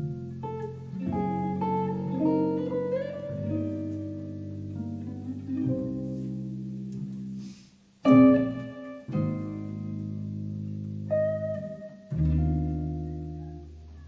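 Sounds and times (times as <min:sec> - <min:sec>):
jazz electric guitar: 0:00.0 - 0:14.0.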